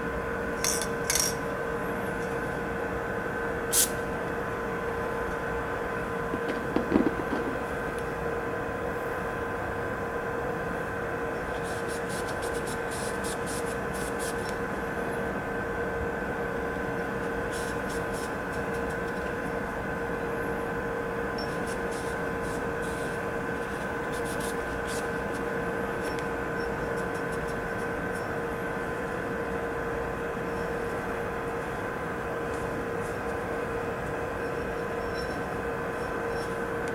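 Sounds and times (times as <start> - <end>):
electrical hum with tones: 0.0 - 36.9.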